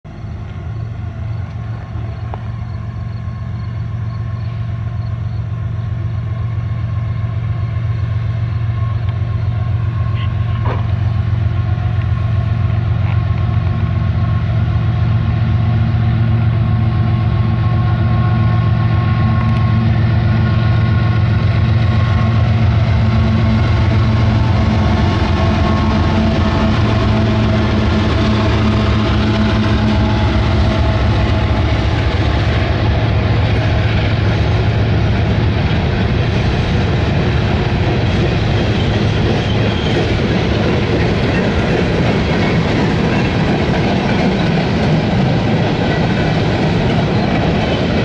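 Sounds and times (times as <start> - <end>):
diesel locomotive engines droning: 0.0 - 48.0.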